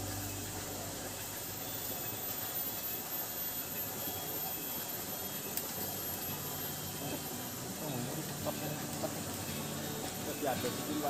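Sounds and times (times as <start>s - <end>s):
water rushing through sluice gate: 0.0s - 11.0s.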